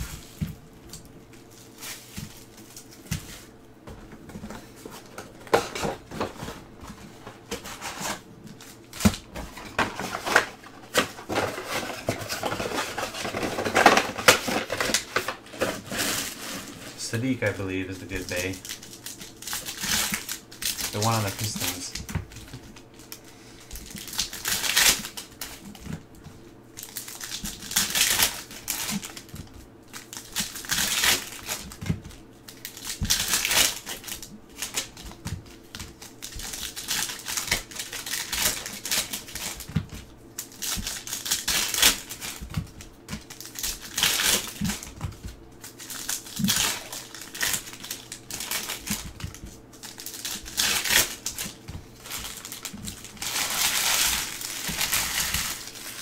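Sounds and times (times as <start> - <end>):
foil wrappers crinkling: 0.0 - 56.0.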